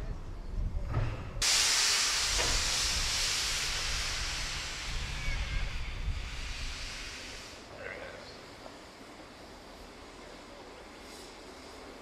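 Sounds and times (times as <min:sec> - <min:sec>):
steam hissing from locomotive: 0:01.4 - 0:07.8, 0:08.6 - 0:12.0.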